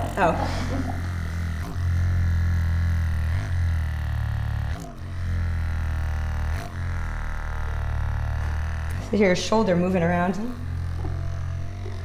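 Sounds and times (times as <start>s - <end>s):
massage gun buzzing: 0.0s - 12.0s.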